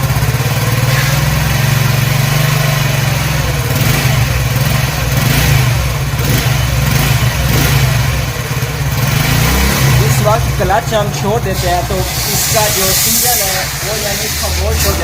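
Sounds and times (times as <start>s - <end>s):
mechanical noise inside engine: 0.0s - 15.0s
motorcycle engine idling: 0.0s - 15.0s.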